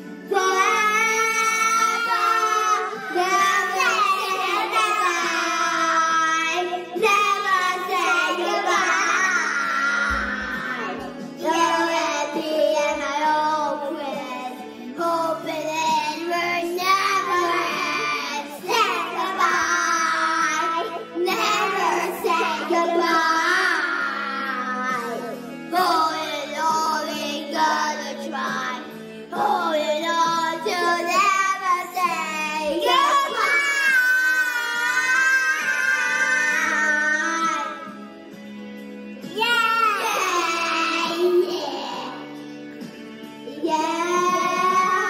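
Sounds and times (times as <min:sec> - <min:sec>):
children singing into microphones: 0:00.0 - 0:38.2, 0:39.2 - 0:45.0
backing music: 0:00.0 - 0:45.0.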